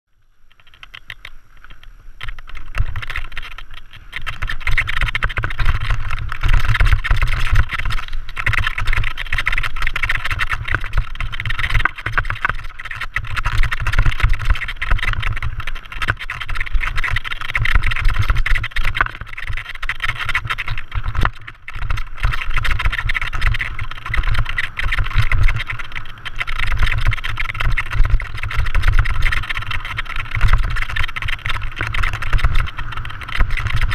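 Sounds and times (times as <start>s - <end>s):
bike rattling over rocks: 0.5s - 33.9s
wind buffeting microphone: 1.0s - 33.9s.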